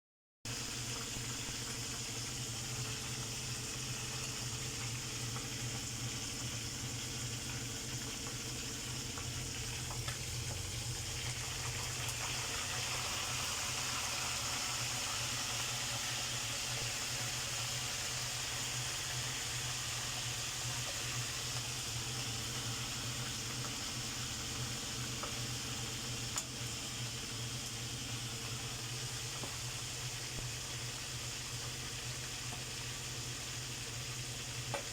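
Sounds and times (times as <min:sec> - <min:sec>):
food bubbling in a pan: 0:00.5 - 0:34.9.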